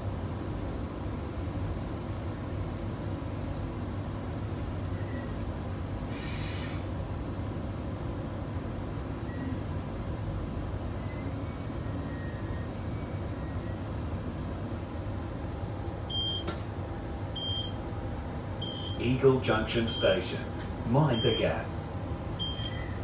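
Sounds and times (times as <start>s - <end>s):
train carriage hum and rumble: 0.0s - 23.0s.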